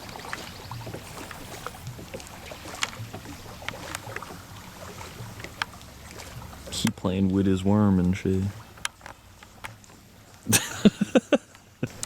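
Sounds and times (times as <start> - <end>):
water lapping at shore: 0.0 - 12.0.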